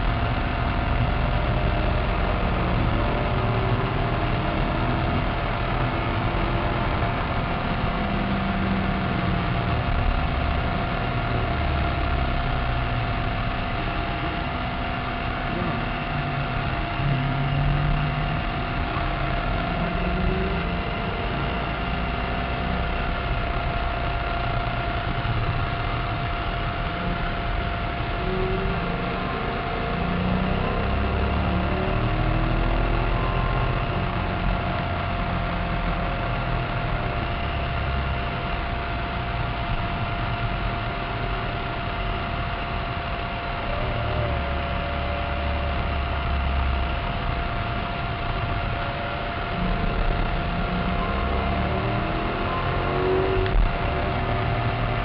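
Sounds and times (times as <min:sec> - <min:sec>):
car engine at speed: 0:00.0 - 0:55.0
steady high whine: 0:00.0 - 0:55.0.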